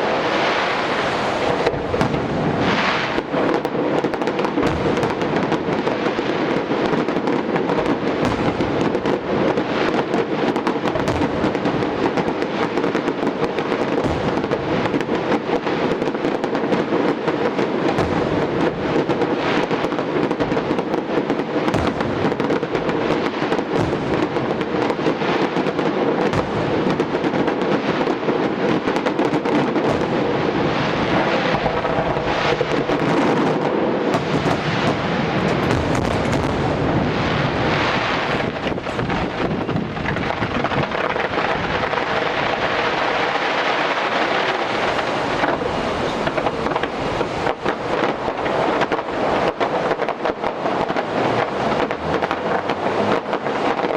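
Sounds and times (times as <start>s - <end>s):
fireworks bursts and crackles: 0.0s - 53.9s.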